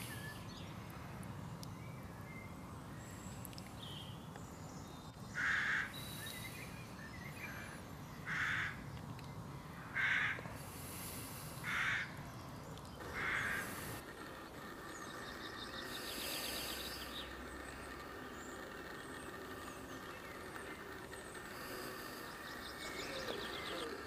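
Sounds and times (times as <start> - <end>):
small birds trilling and chirping: 0.0 - 24.0
loud bird calls: 1.7 - 24.0.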